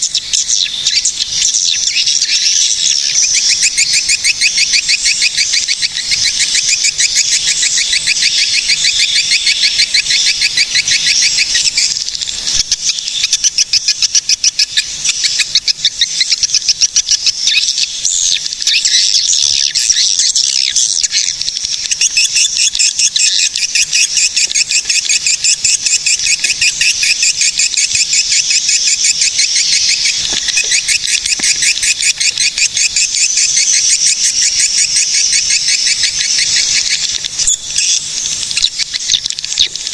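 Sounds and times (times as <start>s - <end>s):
swiftlets chirping: 0.0s - 39.9s.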